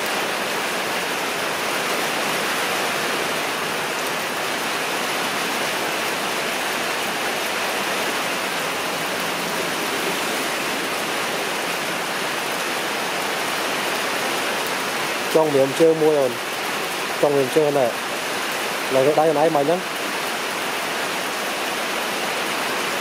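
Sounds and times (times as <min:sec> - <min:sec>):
falling water rushing: 0:00.0 - 0:23.0.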